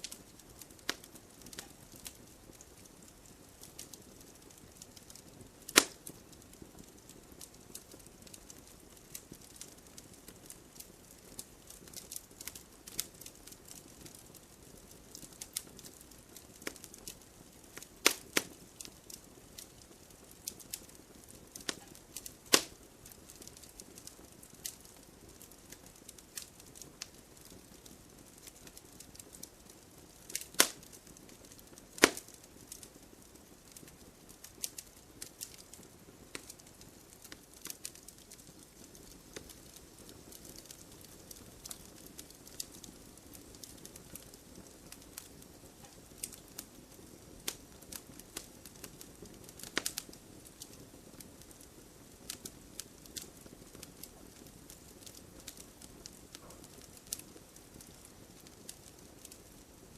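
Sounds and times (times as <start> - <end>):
sharp fire pops: 0.0 - 14.1, 14.8 - 29.5, 30.2 - 50.8, 52.2 - 59.3
faint fire hiss: 0.0 - 59.9
logs crackling in fireplace: 0.0 - 59.9.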